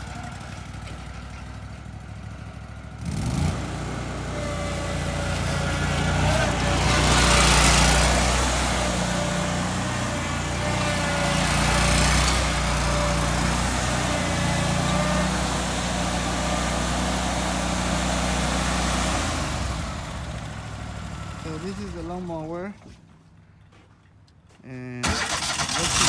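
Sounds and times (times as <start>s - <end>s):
engine running steadily: 0.0s - 22.7s, 25.0s - 26.0s.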